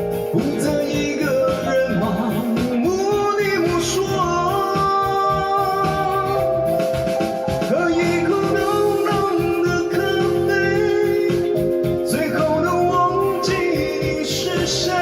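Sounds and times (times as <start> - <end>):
drum and bass groove: 0.0 - 15.0
funk pop music: 0.0 - 15.0
guitar: 0.0 - 15.0.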